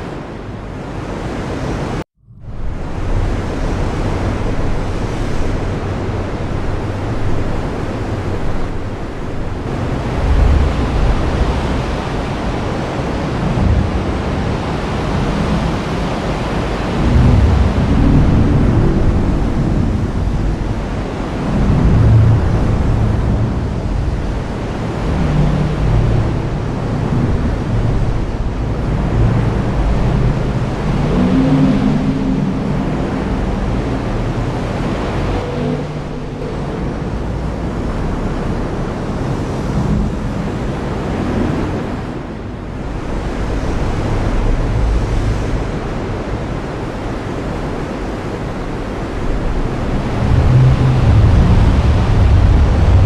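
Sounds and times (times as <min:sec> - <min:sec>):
low rumbling: 0:01.9 - 0:53.0.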